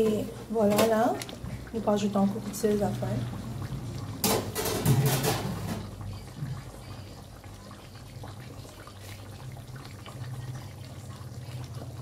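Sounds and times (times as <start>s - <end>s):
gravy bubbling in a wok: 0.0s - 12.0s.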